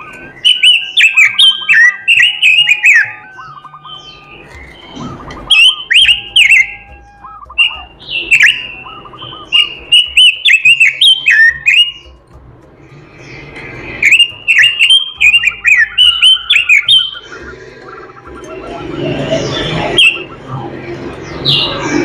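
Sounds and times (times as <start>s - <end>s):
bird singing whistled notes: 0.0s - 12.2s, 13.3s - 20.5s.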